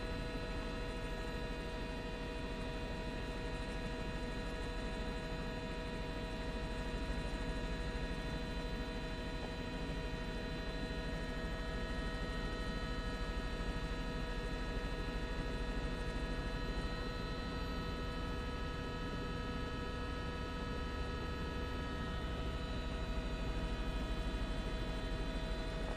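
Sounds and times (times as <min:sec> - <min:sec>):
helicopter cabin drone: 0:00.0 - 0:25.9.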